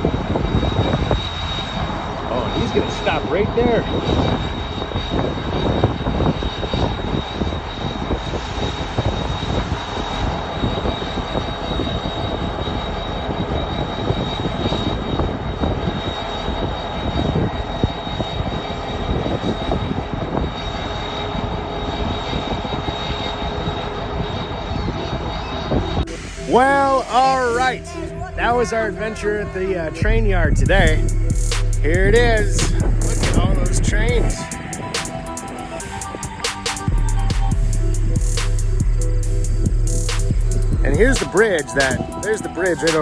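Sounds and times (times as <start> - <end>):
diesel locomotive engine rumble: 0.0 - 43.0
high-pitched engine whine: 0.0 - 43.0.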